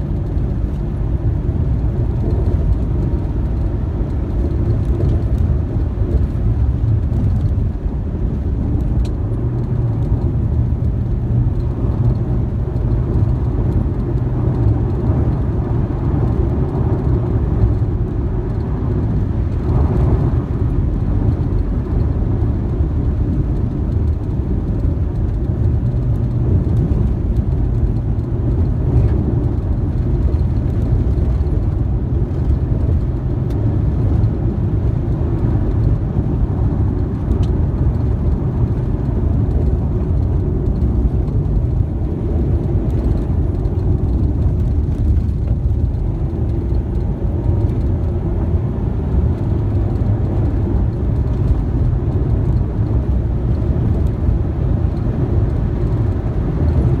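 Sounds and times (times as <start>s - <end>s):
car driving on dirt road: 0.0s - 57.0s.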